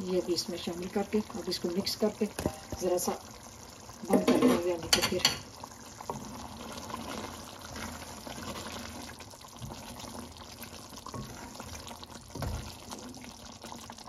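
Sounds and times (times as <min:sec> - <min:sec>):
thick sauce bubbling: 0:00.8 - 0:04.1, 0:05.4 - 0:14.0.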